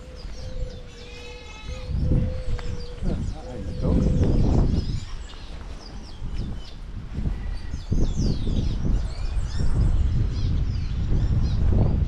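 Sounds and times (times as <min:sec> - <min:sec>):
birds chirping: 0:00.0 - 0:12.0
low microphone rumble: 0:00.0 - 0:12.0.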